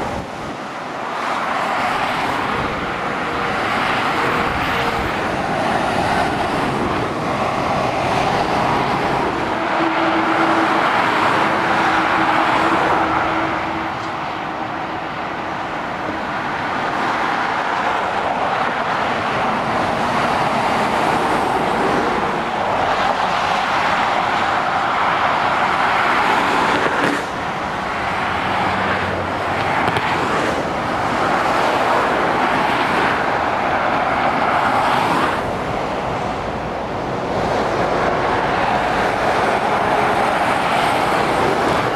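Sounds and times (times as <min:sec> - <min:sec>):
motorway traffic passing: 0:00.0 - 0:41.9.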